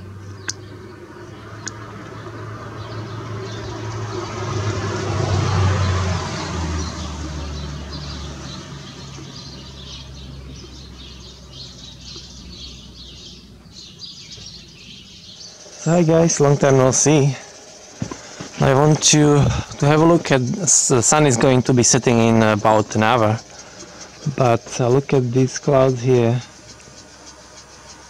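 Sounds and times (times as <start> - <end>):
birds chirping: 0.0 - 28.0
passing engine rumble: 0.0 - 28.0.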